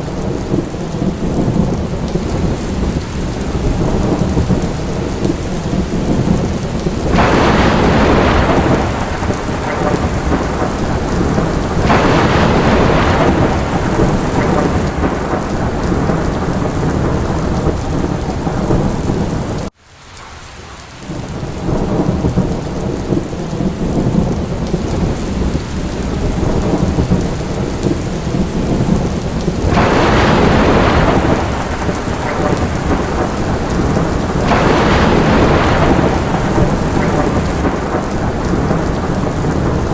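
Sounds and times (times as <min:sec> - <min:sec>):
rolling thunder: 0:00.0 - 0:19.7, 0:20.7 - 0:39.9
heavy rain: 0:00.0 - 0:39.9.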